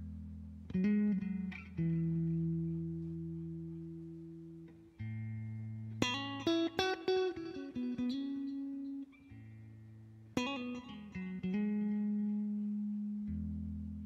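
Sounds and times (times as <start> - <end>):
electric guitar picking: 0.0 - 14.0.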